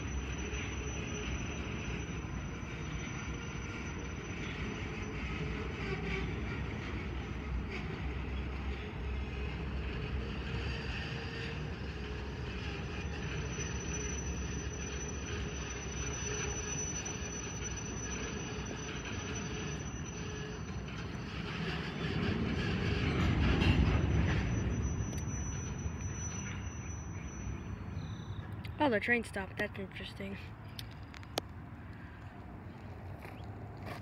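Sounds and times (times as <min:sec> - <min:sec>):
freight train rolling past: 0:00.0 - 0:34.0.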